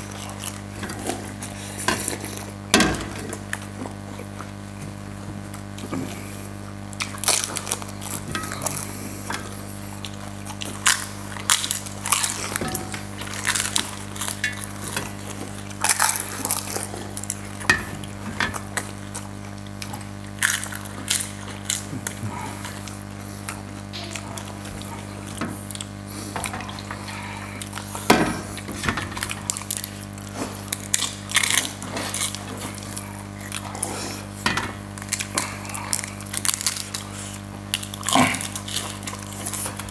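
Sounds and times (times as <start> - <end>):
crisp puris crunching: 0.0 - 39.9
steady low hum: 0.0 - 39.9.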